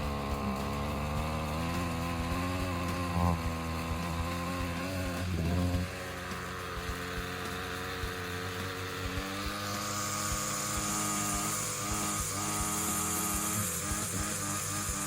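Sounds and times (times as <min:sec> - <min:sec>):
high-pitched whine: 0:00.0 - 0:15.0
string trimmer engine running: 0:00.0 - 0:15.0.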